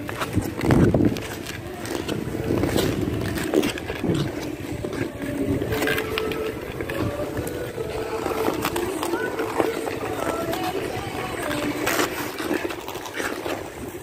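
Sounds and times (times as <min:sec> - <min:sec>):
skate blades scraping ice: 0:00.0 - 0:14.0.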